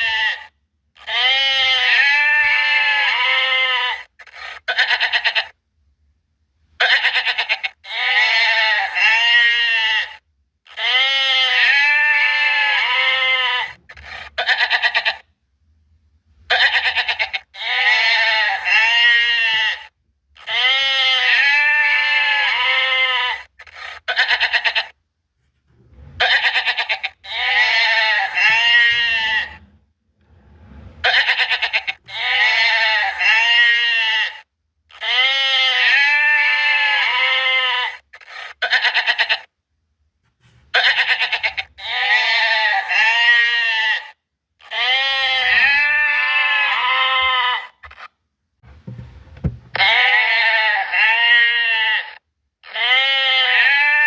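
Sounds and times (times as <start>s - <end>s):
goats bleating: 0.0s - 5.6s, 6.8s - 15.2s, 16.5s - 25.0s, 26.2s - 29.6s, 31.0s - 39.5s, 40.7s - 48.1s, 49.7s - 54.0s.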